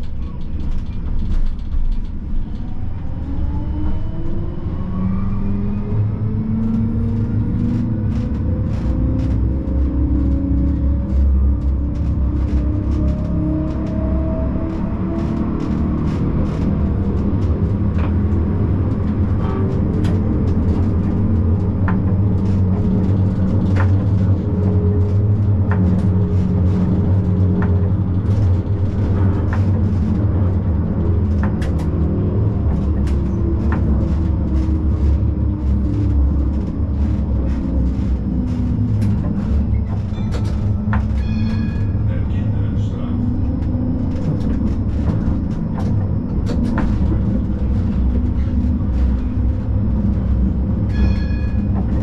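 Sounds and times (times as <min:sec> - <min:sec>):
tram rumbling and humming: 0:00.0 - 0:52.0
wheels clicking on rails: 0:00.0 - 0:52.0.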